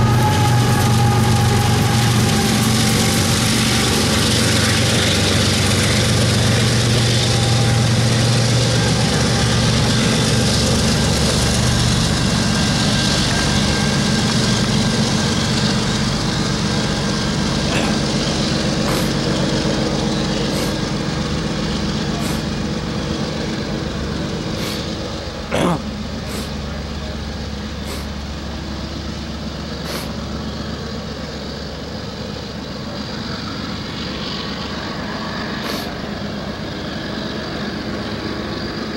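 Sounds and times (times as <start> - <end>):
diesel locomotive engines: 0.0 - 38.9.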